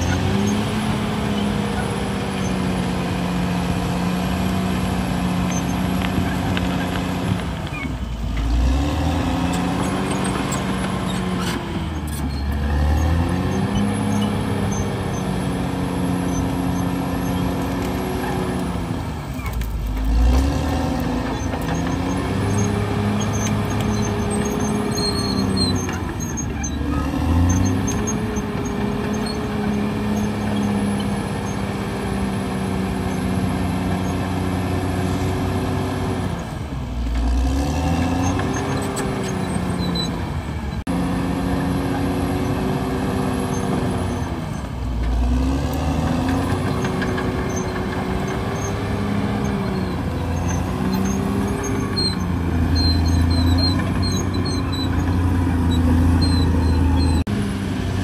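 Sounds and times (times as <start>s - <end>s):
bulldozer diesel engine labouring: 0.0s - 58.0s.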